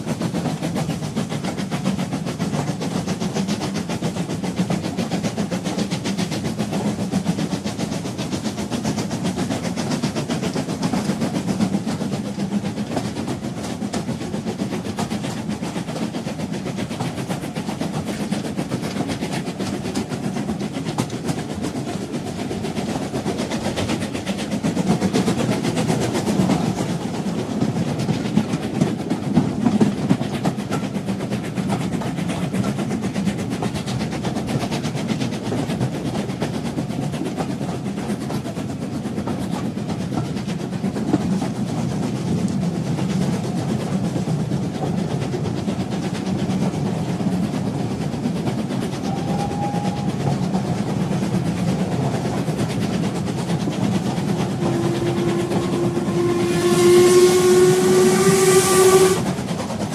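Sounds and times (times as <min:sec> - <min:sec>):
train rumbling: 0:00.0 - 0:59.9
wheels clickety-clack on track: 0:00.0 - 0:59.9.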